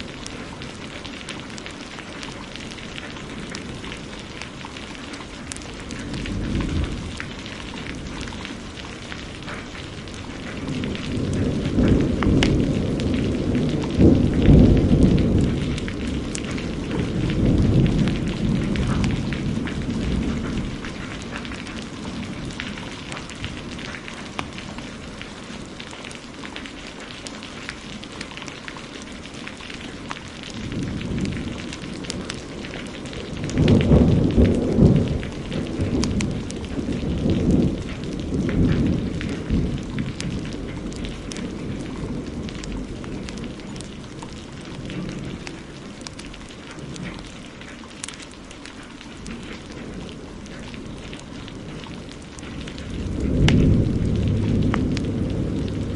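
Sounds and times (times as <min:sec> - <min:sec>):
heavy rain: 0:00.0 - 0:55.9
thunder rumbling: 0:00.0 - 0:55.9
wood fire crackling: 0:00.0 - 0:55.9.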